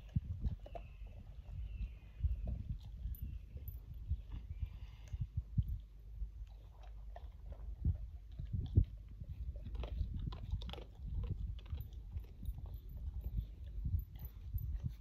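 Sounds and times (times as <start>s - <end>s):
puppy crunching food: 0.0s - 3.6s, 5.8s - 15.0s.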